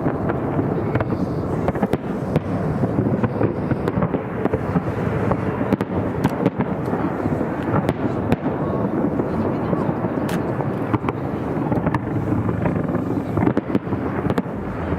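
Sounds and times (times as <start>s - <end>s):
fireworks bangs: 0.0s - 14.9s
fireworks crackling: 0.0s - 14.9s.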